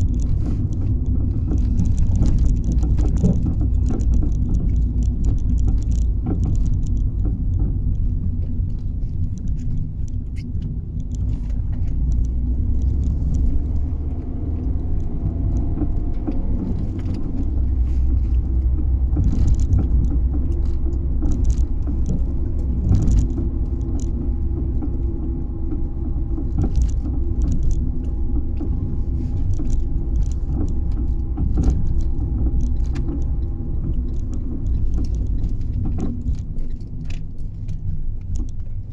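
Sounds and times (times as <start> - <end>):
clunks and knocks under car: 0.0 - 10.2, 10.8 - 38.6
car road rumble: 0.0 - 38.9.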